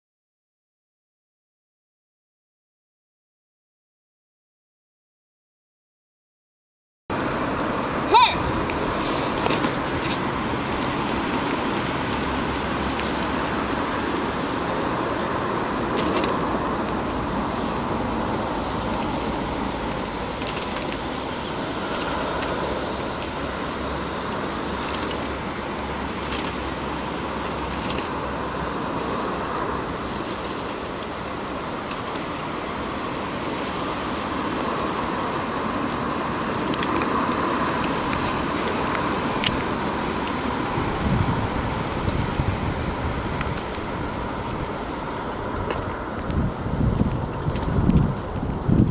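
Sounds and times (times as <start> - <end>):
outdoor rushing hiss: 8.6 - 47.9.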